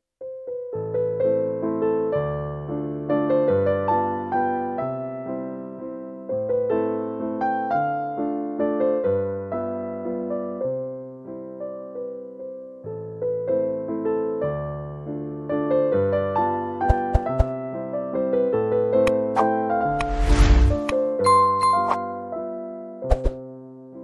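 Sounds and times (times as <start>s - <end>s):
piano music: 0.2s - 24.0s.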